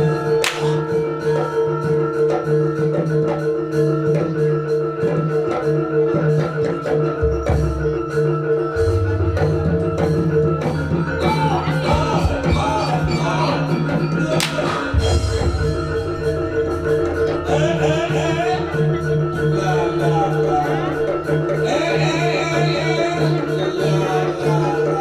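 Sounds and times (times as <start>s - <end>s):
metal mallet instruments: 0.0s - 25.0s.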